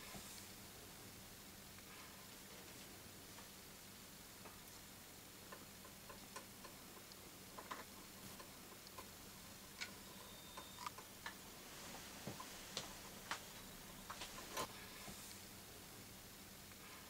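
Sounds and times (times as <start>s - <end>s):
faint ticks and clicks: 1.6s - 15.4s.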